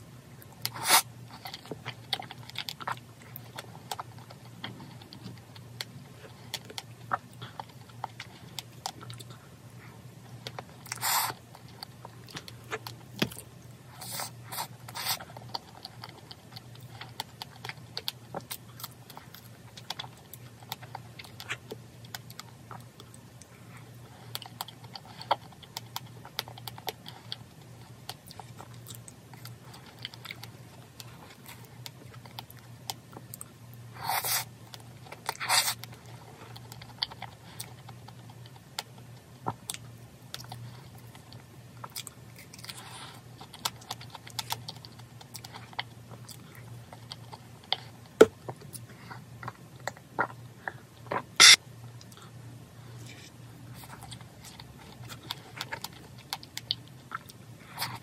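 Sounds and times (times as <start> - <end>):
soft chewing: 0.3 - 58.0.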